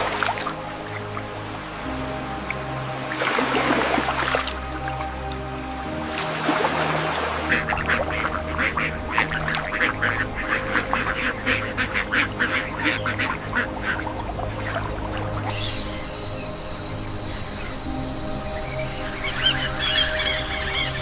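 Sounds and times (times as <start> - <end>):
background music with held tones: 0.0 - 21.0.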